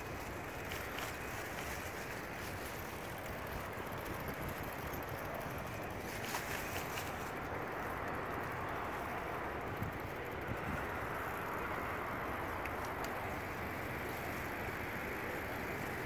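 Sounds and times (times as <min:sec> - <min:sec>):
city traffic: 0:00.0 - 0:16.0.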